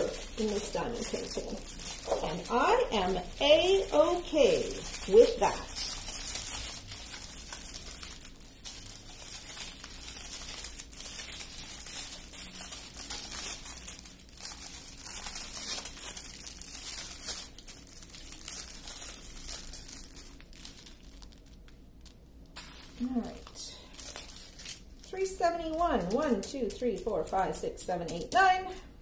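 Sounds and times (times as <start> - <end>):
plastic bags crinkling: 0.0 - 28.9.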